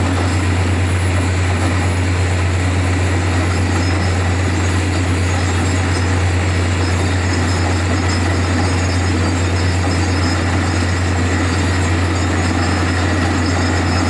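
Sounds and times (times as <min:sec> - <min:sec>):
drilling rig engine drone: 0:00.0 - 0:14.0.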